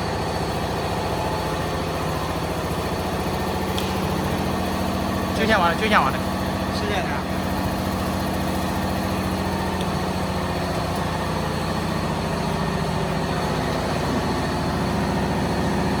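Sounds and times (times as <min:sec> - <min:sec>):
wood router machine hum: 0:00.0 - 0:16.0.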